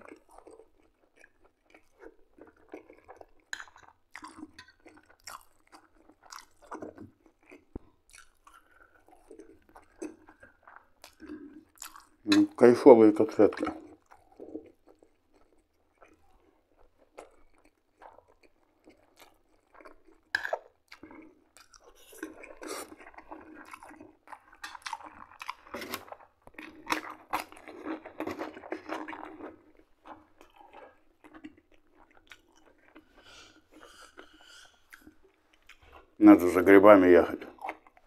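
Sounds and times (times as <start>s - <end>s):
wet chewing mouth sounds: 0.0s - 36.2s, 37.2s - 38.0s.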